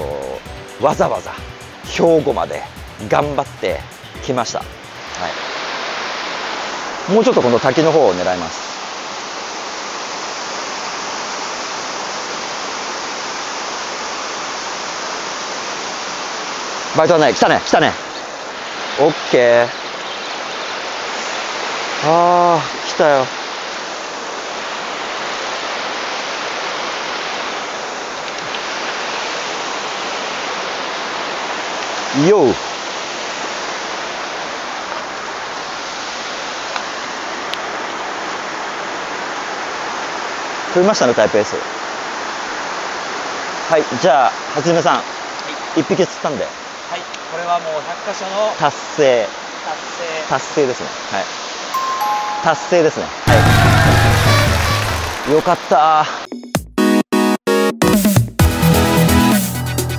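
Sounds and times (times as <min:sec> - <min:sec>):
water rushing over a weir: 0:04.4 - 0:55.8.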